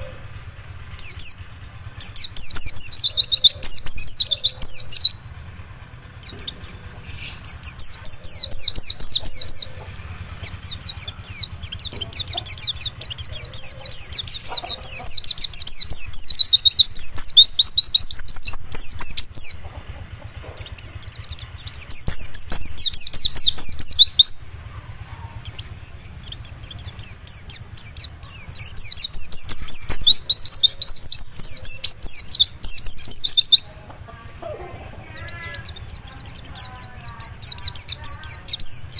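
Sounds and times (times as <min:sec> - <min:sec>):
bird singing rapid high notes: 0:00.0 - 0:38.9.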